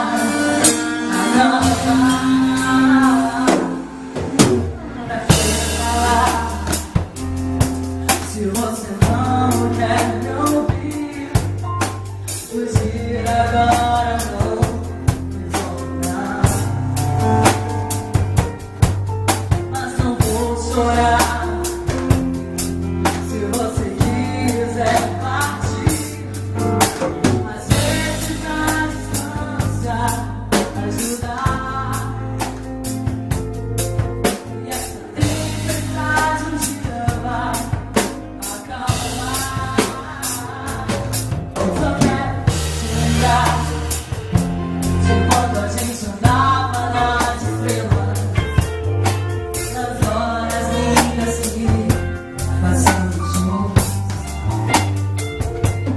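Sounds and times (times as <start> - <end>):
woman singing pop ballad: 0.0 - 17.6, 19.3 - 33.4, 34.0 - 54.9
bass: 0.0 - 55.9
drum kit: 0.0 - 55.9.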